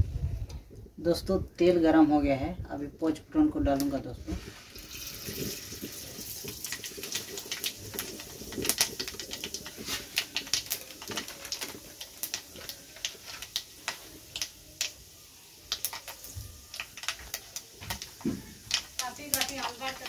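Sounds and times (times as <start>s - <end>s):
seeds crackling in hot oil: 0.8s - 20.0s.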